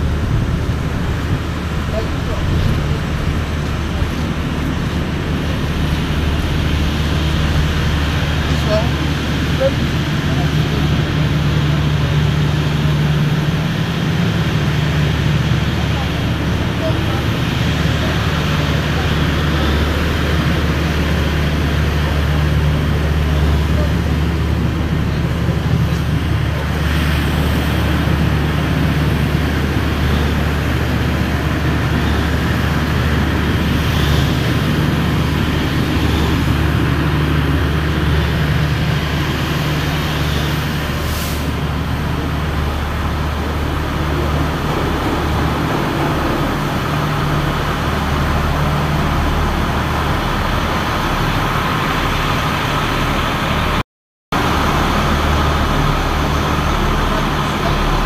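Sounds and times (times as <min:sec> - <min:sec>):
large vehicle engine idling: 0:00.0 - 0:58.0.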